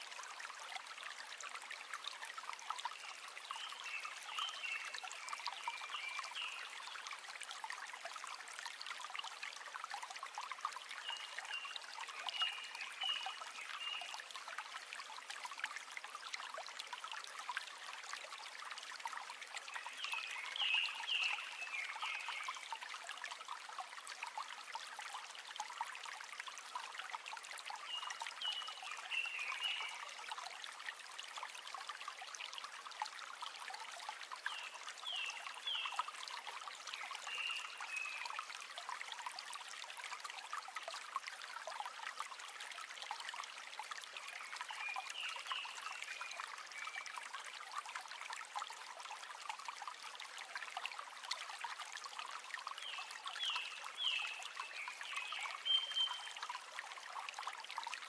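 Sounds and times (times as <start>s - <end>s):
river bubbling over stones: 0.0s - 58.0s.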